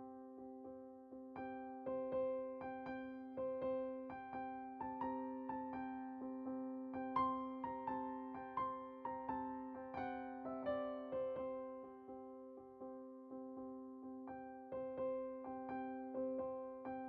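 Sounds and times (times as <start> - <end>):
gentle electric piano music: 0.0 - 17.0.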